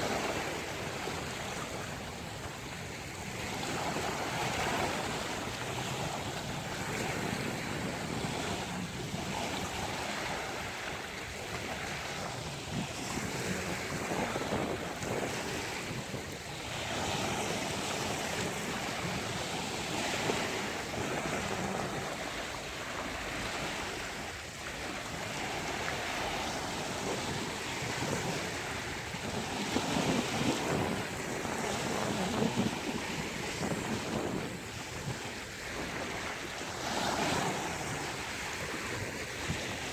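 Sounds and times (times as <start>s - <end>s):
waves breaking on a beach: 0.0s - 39.9s
wind on the microphone: 0.0s - 39.9s.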